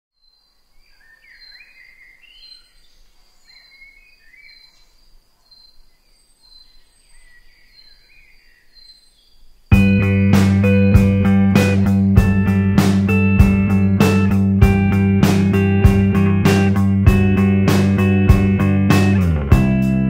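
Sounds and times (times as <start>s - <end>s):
birds chirping: 0.2s - 20.0s.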